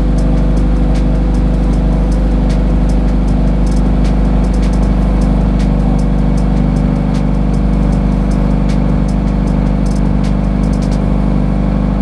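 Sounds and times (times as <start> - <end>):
sharp ticks: 0.0 - 11.1
car engine idling: 0.0 - 12.0.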